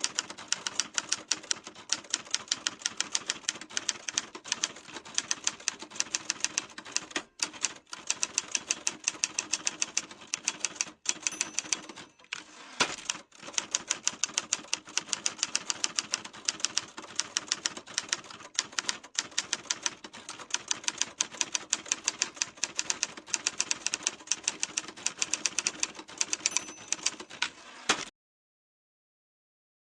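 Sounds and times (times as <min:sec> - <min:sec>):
typewriter keys clacking: 0:00.0 - 0:28.1.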